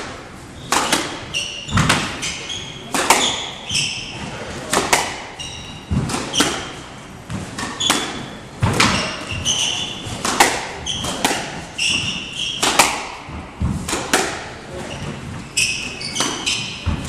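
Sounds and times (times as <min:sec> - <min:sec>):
squash ball hitting racquets and walls: 0:00.0 - 0:17.0
shoes squeaking on wooden floor: 0:00.5 - 0:04.7, 0:05.3 - 0:13.9, 0:14.6 - 0:17.0.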